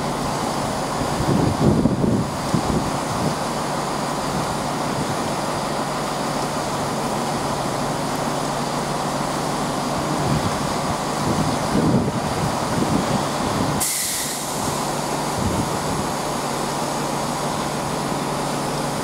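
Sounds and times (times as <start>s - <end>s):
diesel train idling: 0.0s - 19.0s.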